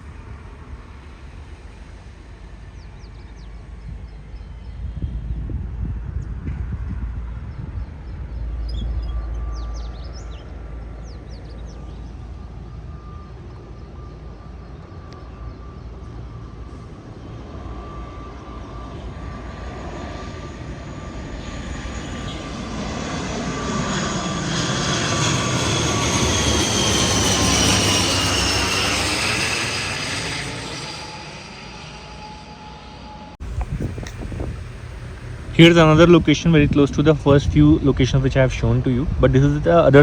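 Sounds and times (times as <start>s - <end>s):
airliner flying low overhead: 0.0s - 40.0s.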